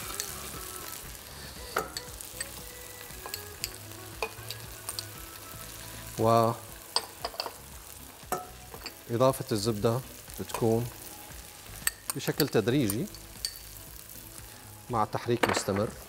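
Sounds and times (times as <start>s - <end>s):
butter sizzling in a pan: 0.0s - 16.0s.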